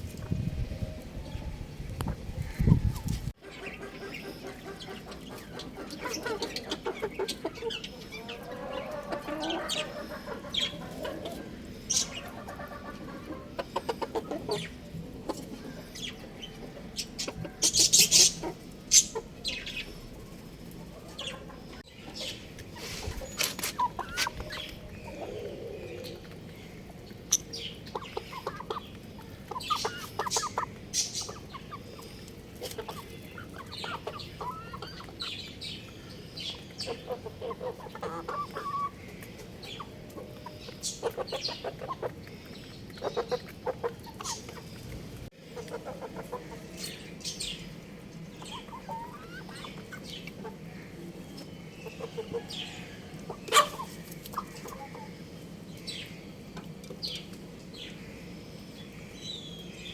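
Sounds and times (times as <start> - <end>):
rooster clucking and chirping: 0.2 - 55.3.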